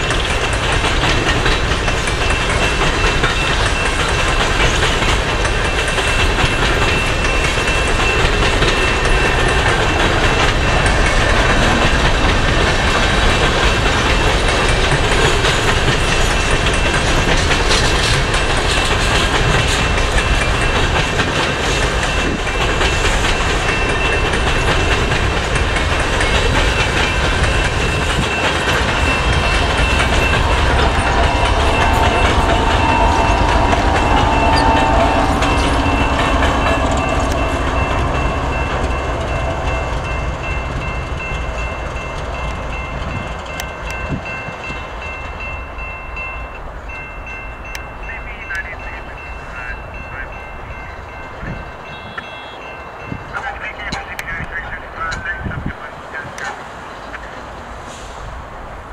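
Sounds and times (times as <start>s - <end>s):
wheels clicking over rail joints: 0.0s - 48.0s
locomotive engine: 0.0s - 58.9s.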